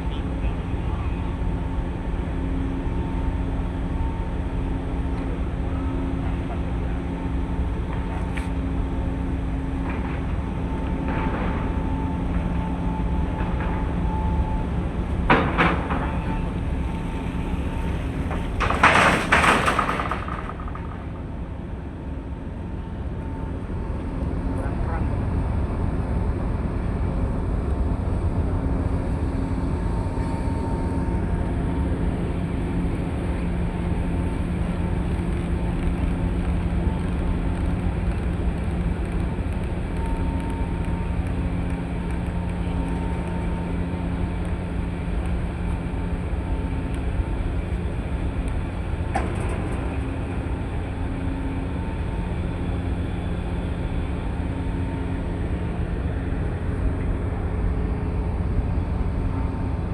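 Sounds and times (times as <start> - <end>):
ship engine rumbling: 0.0 - 59.9.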